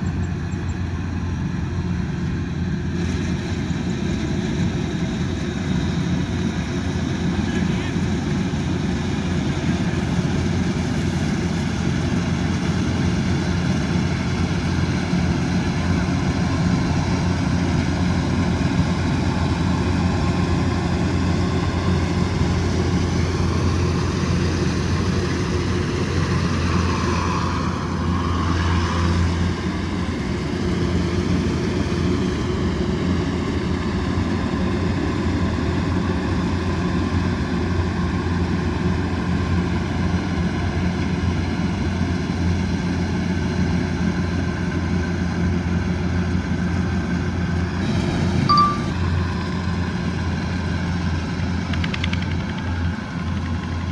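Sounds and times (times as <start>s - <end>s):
combine harvester diesel engine: 0.0s - 53.9s.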